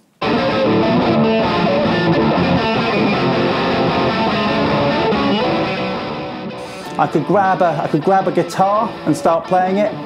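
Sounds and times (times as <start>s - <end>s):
distorted electric guitar music: 0.1s - 10.0s.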